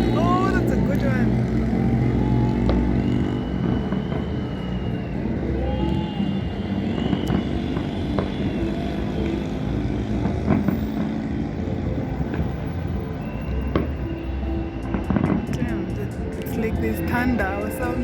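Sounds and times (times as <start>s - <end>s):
distant fireworks rumbling: 0.0s - 18.0s.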